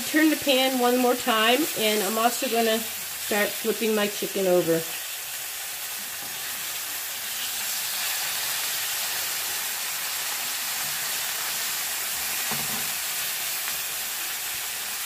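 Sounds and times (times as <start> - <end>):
chicken sizzling in frying pan: 0.0 - 15.0.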